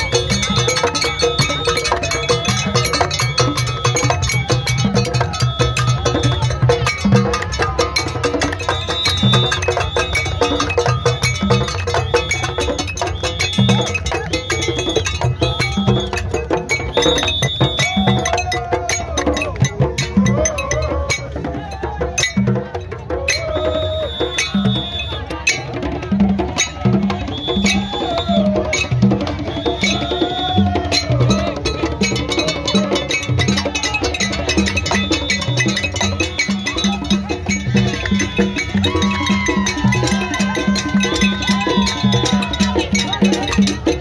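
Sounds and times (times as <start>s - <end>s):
high shrill notes: 0.0s - 22.4s, 23.2s - 25.6s, 26.6s - 44.0s
steady drum beat: 0.0s - 44.0s
voices: 0.0s - 44.0s.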